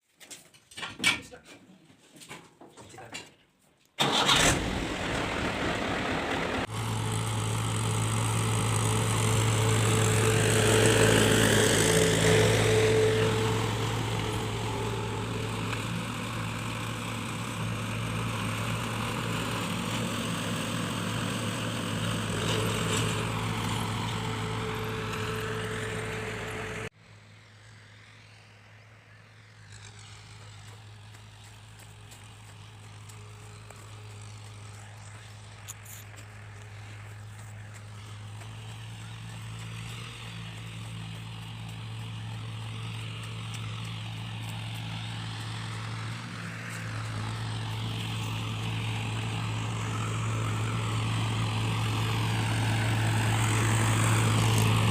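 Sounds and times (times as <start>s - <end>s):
tractor diesel engine running: 4.0s - 26.9s, 29.8s - 54.9s.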